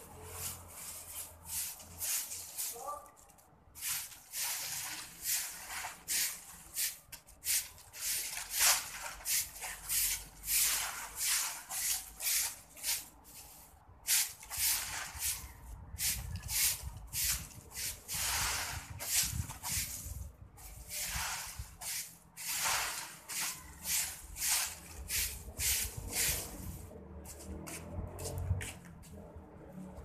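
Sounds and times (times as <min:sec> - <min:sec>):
broom sweeping leaves on concrete: 0:00.0 - 0:29.3.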